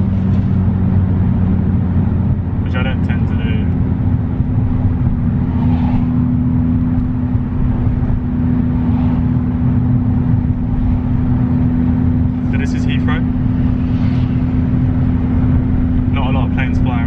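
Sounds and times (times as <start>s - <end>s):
car engine droning: 0.0s - 17.0s
tyre and road noise: 0.0s - 17.0s.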